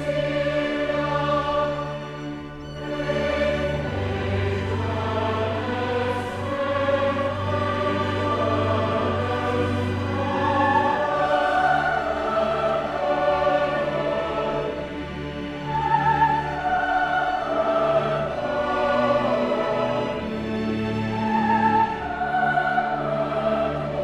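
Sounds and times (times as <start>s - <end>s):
choir singing: 0.0s - 24.0s
string orchestra: 0.0s - 24.0s.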